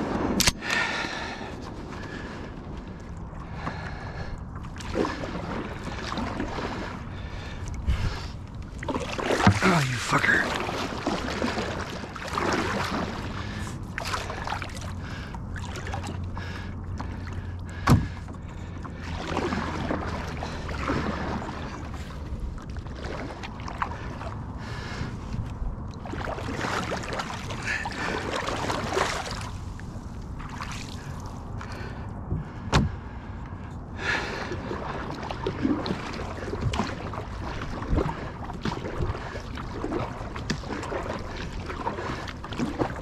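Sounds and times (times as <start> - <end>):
water splashing against hull: 0.0 - 43.0
canoe paddle strokes: 1.6 - 32.9, 34.0 - 43.0.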